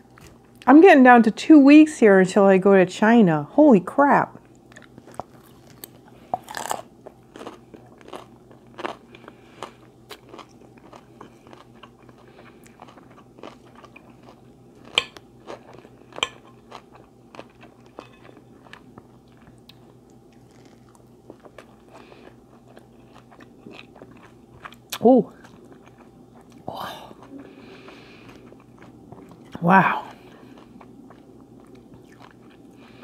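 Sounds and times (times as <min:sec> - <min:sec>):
person chewing and biting food: 0:04.5 - 0:33.0.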